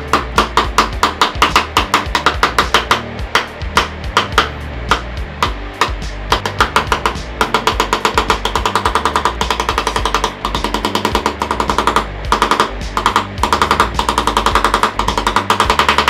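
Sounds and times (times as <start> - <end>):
background music with bass: 0.0 - 16.0
rapid light hammering taps: 0.0 - 16.0.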